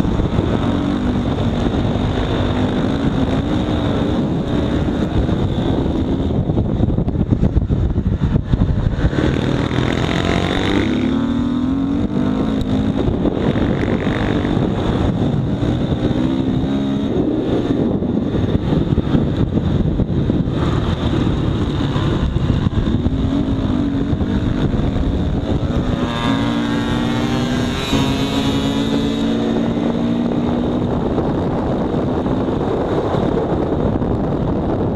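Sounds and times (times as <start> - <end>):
motorcycle engine accelerating: 0.0 - 34.9
wind rush on microphone: 0.0 - 34.9.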